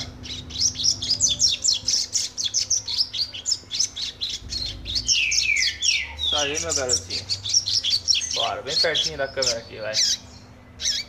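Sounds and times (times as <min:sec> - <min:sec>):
bird singing high chirping notes: 0:00.0 - 0:11.0.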